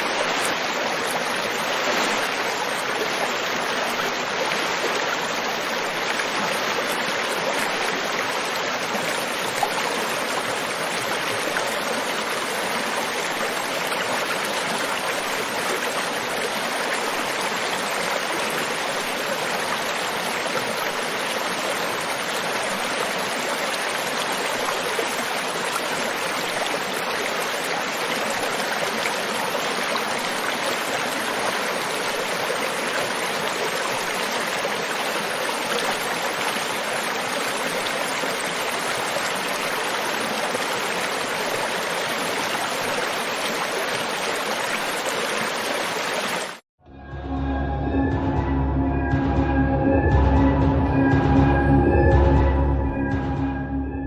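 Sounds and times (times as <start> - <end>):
river water rushing: 0.0 - 46.6.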